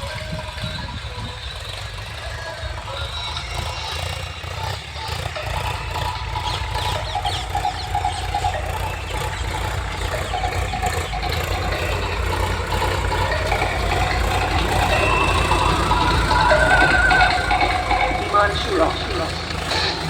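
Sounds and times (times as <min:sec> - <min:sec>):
tractor diesel engine rumbling: 0:00.0 - 0:20.0.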